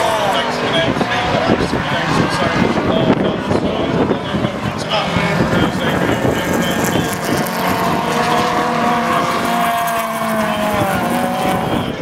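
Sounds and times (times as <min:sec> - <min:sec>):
racing car engine high revs: 0:00.0 - 0:12.0.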